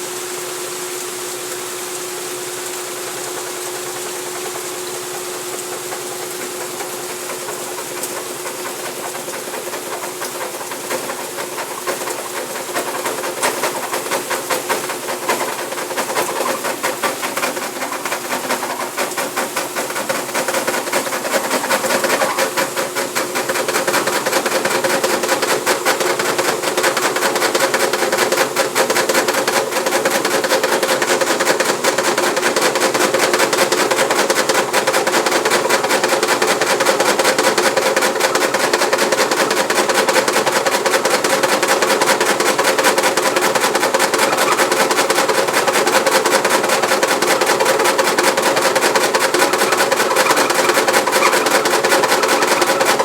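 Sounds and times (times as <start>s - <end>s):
washing machine hum: 0.0s - 53.0s
washing machine rattling and knocking: 2.0s - 53.0s.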